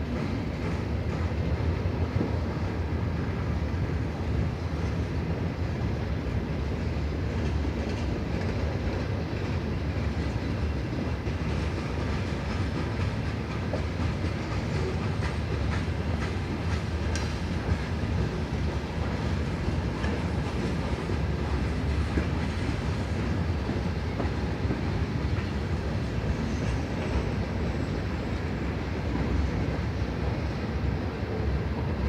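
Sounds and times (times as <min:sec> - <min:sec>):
train clicks: 0:00.0 - 0:31.6
train wheels rumbling on rails: 0:00.0 - 0:32.0.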